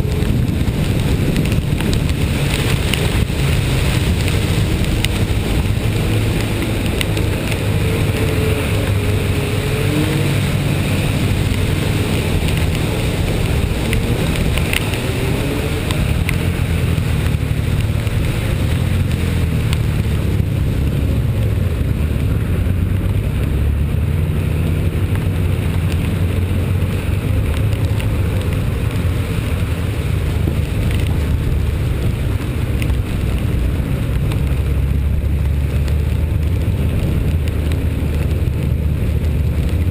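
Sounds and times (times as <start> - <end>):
low engine hum: 0.0 - 39.9
wet road and rain hiss: 0.0 - 39.9.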